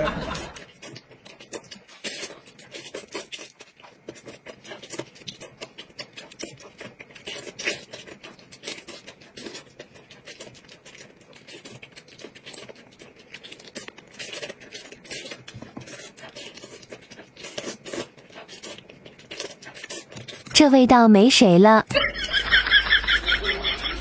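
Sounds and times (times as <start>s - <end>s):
chewing chicken drumstick: 0.0s - 20.5s.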